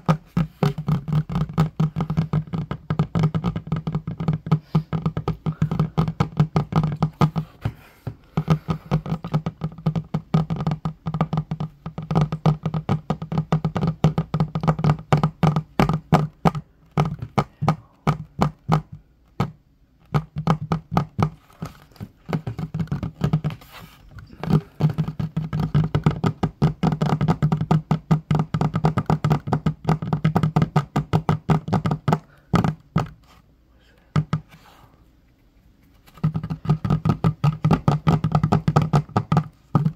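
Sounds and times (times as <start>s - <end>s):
fingers tapping on wooden table: 0.0s - 33.3s, 34.1s - 34.6s, 36.2s - 39.9s.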